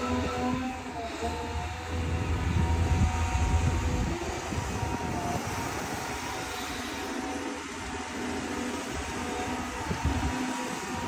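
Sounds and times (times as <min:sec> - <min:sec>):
excavator diesel engine under load: 0:00.0 - 0:11.0
hydraulic whine: 0:00.0 - 0:11.0.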